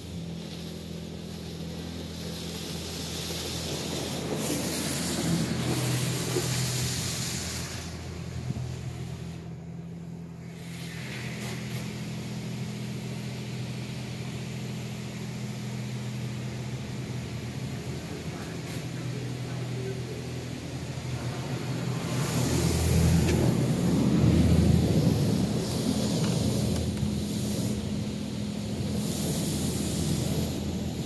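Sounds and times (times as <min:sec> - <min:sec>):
steady low hum: 0:00.0 - 0:31.0
water spray hissing on car: 0:00.0 - 0:31.0.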